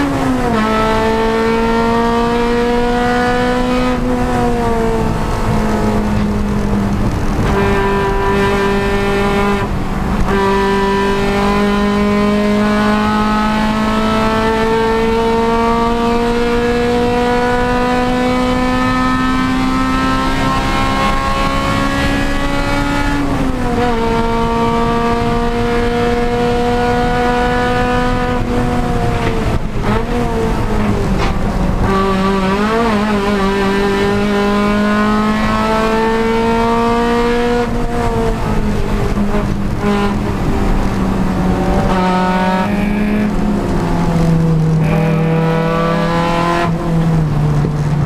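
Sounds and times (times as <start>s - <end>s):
engine blips on downshifts: 0.0s - 48.0s
race car engine accelerating: 0.0s - 48.0s.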